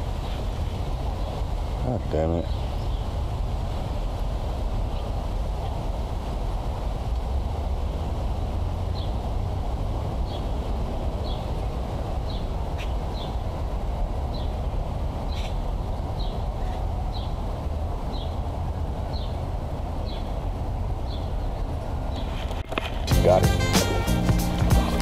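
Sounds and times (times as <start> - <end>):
wind buffeting microphone: 0.0 - 23.1.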